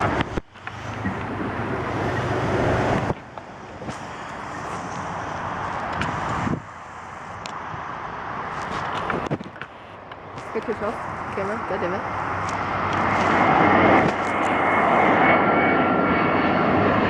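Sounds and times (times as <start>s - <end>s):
wind buffeting microphone: 0.0s - 6.8s, 7.4s - 17.0s
jet engines rushing: 0.0s - 17.0s.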